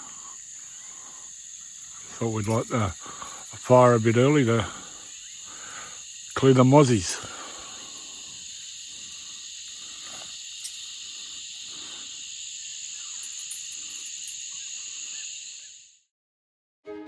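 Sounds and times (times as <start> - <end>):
crickets chirping: 0.0 - 16.1.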